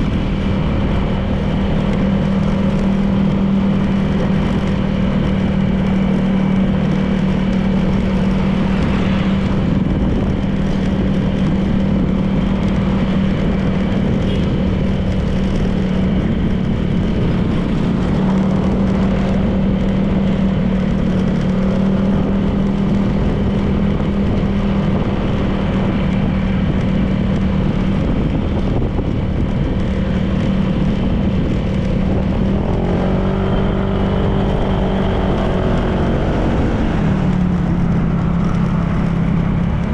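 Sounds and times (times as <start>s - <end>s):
scooter engine cruising: 0.0s - 39.9s
shifting gliding engine tones: 0.0s - 39.9s
wind and road noise: 0.0s - 39.9s.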